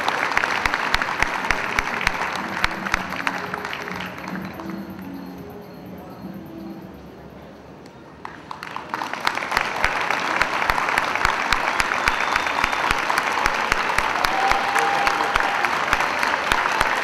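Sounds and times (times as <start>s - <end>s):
audience applauding: 0.0s - 5.2s, 8.2s - 17.0s.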